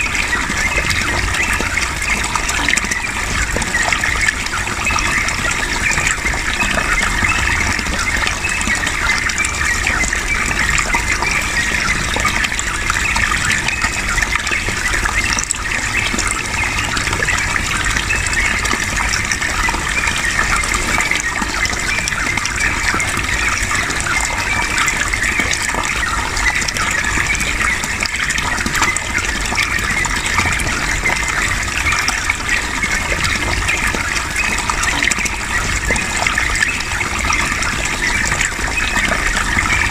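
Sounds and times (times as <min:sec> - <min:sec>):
running water gushing: 0:00.0 - 0:39.9.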